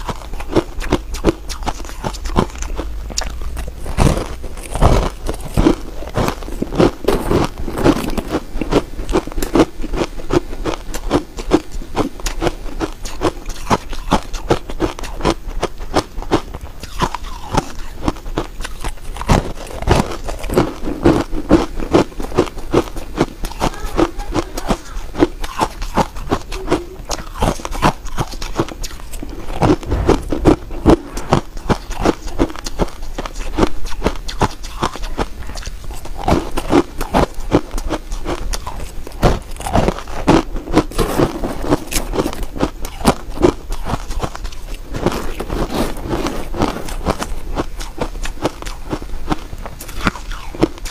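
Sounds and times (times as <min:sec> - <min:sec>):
ice crunching between teeth: 0:00.0 - 0:50.9.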